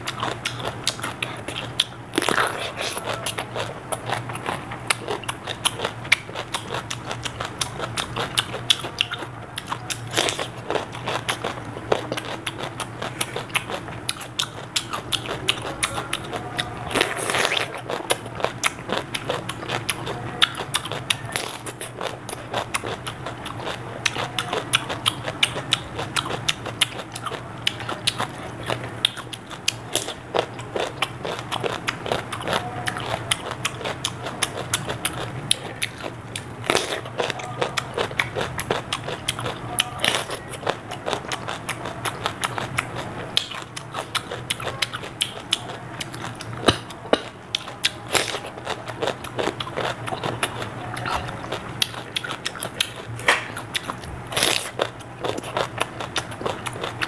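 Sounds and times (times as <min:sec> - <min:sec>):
crunching and chewing cucumber: 0:00.0 - 0:57.0.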